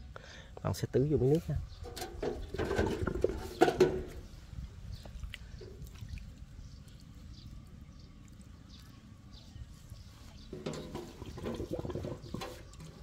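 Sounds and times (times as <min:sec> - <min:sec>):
water trickling onto soil: 0:01.4 - 0:13.0.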